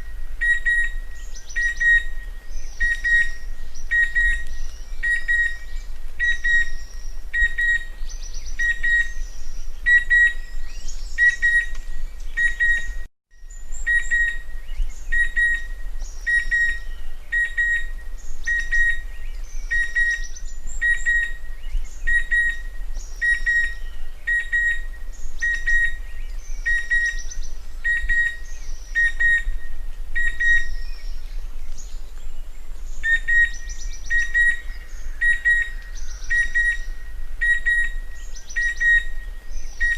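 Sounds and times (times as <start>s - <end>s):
cuckoo whistled call: 0.0s - 7.9s, 9.8s - 11.8s, 12.4s - 21.4s, 22.0s - 31.1s, 33.0s - 39.9s.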